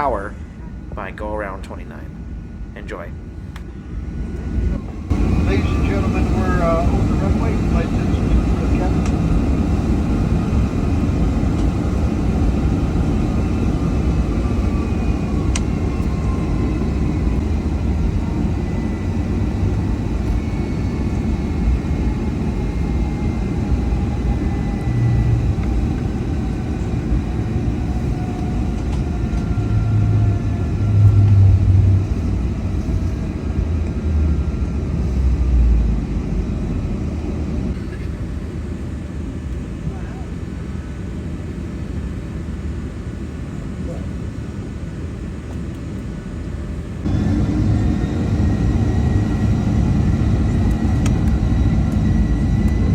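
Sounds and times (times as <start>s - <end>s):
jet engines at takeoff power: 0.0s - 52.9s.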